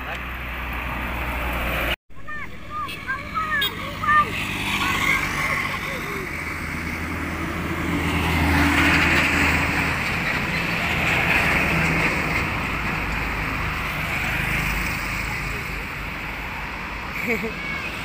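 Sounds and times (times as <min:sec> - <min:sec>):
road traffic: 0:00.0 - 0:18.0
truck passing by: 0:00.0 - 0:18.0.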